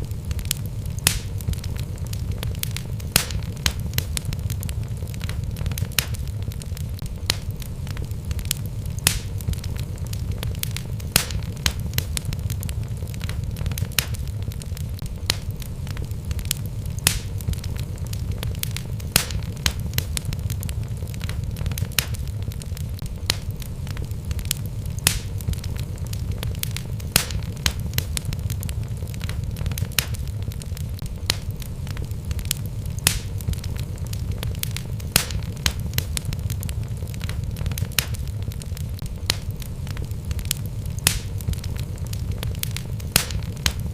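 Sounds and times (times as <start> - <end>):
fire rumbling: 0.0 - 43.9
wood crackling and popping: 0.0 - 43.9.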